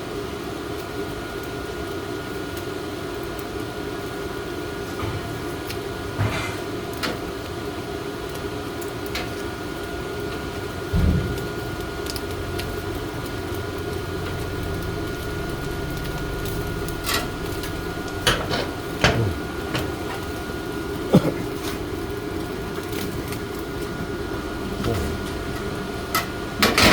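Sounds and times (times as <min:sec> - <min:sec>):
mechanical fan hum: 0:00.0 - 0:26.9.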